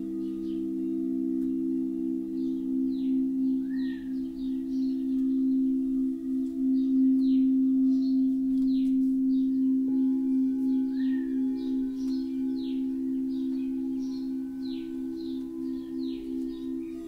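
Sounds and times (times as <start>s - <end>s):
high falling chirps: 0.0s - 17.0s
singing bowls low tones: 0.0s - 17.0s.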